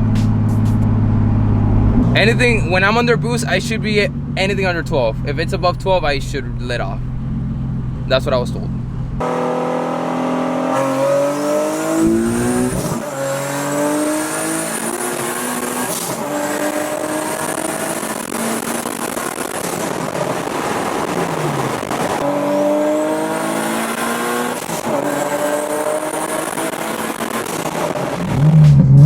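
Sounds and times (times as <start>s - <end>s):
car engine at full throttle: 0.0s - 29.0s.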